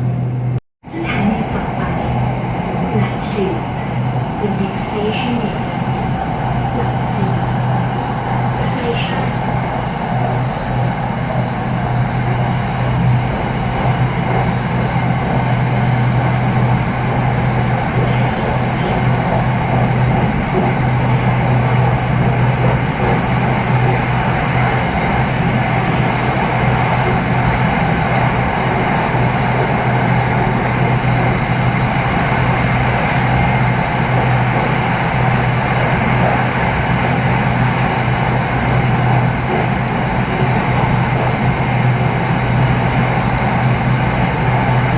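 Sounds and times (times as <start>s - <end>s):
train running noise inside car: 0.0s - 44.9s.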